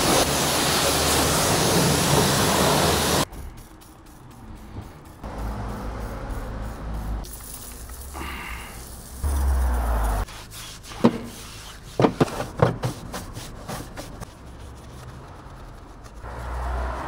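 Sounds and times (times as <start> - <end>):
scrubbing a car wheel: 0.0 - 17.0.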